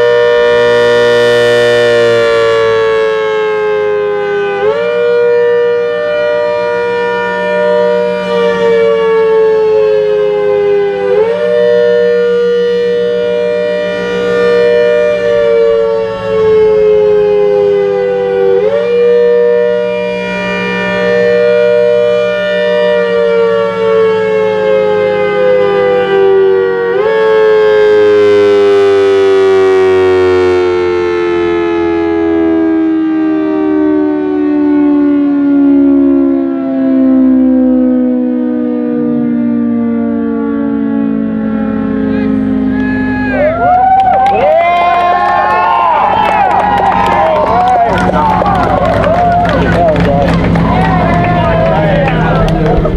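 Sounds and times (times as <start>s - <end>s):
rotating siren wailing: 0.0s - 52.9s.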